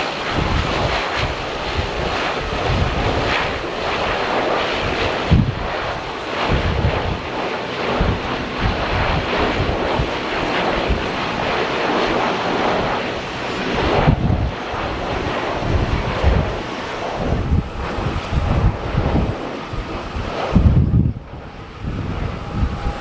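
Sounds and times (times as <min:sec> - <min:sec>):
airliner engine rush: 0:00.0 - 0:23.0
wind buffeting microphone: 0:00.0 - 0:23.0.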